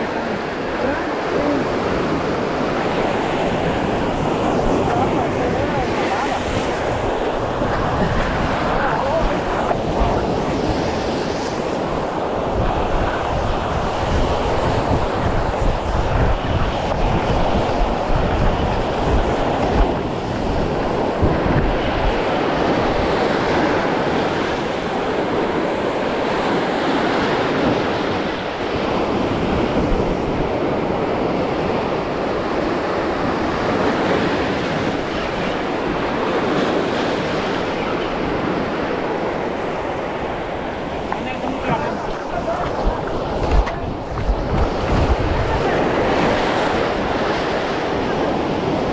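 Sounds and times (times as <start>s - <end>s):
surf breaking over rocks: 0.0s - 48.9s
wind buffeting microphone: 0.0s - 48.9s.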